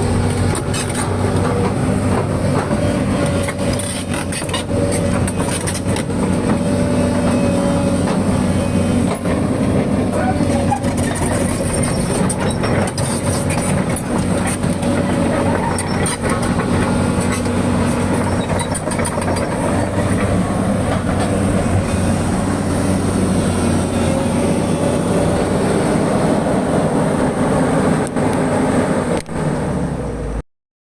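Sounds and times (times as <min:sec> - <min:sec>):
diesel engine running: 0:00.0 - 0:30.4.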